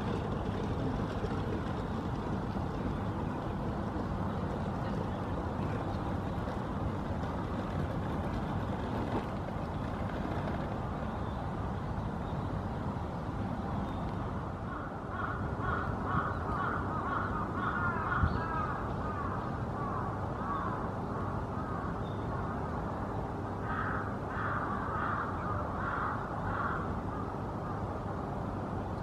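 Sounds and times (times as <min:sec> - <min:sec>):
low background rumble: 0:00.0 - 0:29.0.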